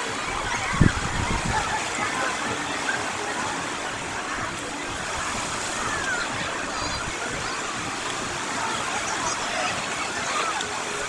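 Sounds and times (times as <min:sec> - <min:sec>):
faint distant voices: 0:00.0 - 0:11.0
waves washing onto beach: 0:00.0 - 0:11.0.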